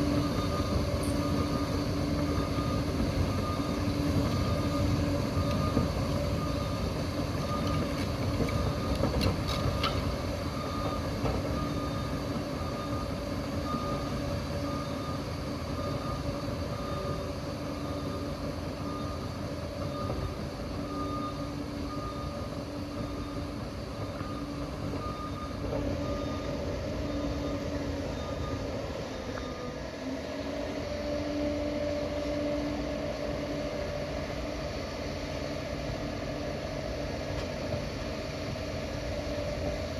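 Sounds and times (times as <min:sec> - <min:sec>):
faint whine: 0:00.0 - 0:39.9.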